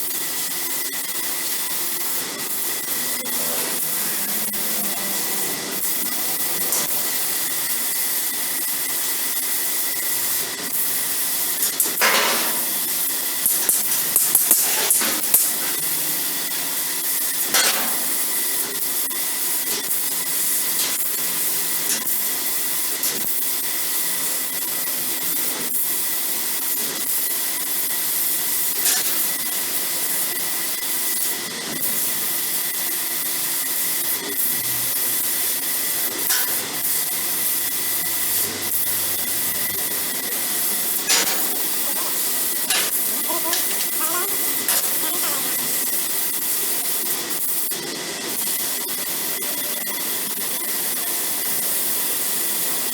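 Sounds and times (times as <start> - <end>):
laser cutting machine hiss: 0.0 - 52.9.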